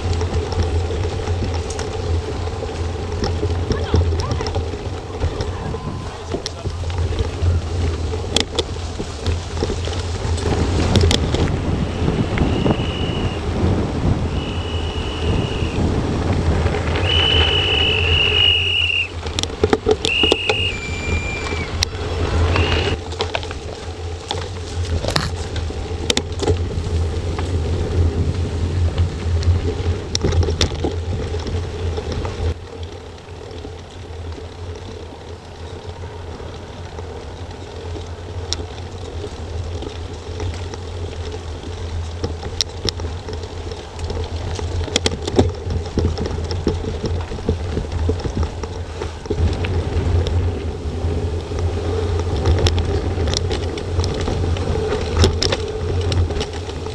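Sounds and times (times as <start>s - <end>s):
bike rattling and knocking: 0.0s - 56.9s
wind and tyre rumble: 0.0s - 56.9s.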